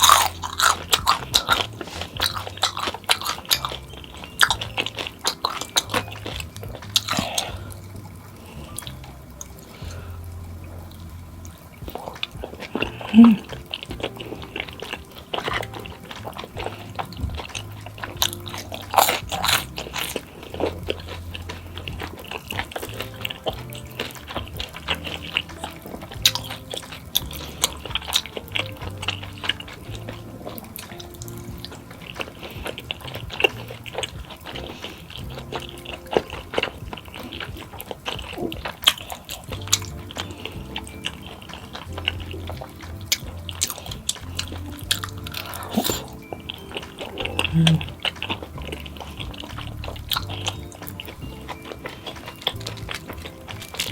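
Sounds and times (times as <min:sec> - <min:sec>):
background music with bass line: 0:00.0 - 0:53.9
biting and chewing food: 0:00.0 - 0:53.9.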